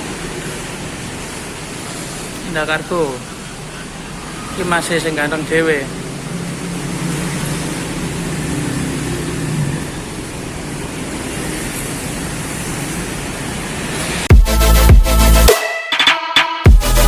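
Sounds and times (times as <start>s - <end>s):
road and wind noise: 0.0s - 14.3s.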